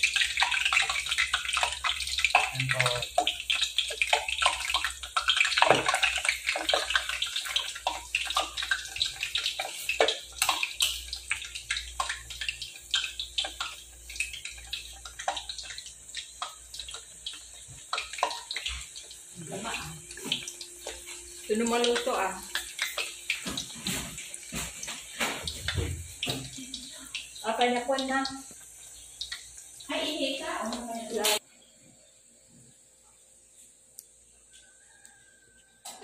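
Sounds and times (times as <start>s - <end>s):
patties sizzling in oil: 0.0s - 36.0s.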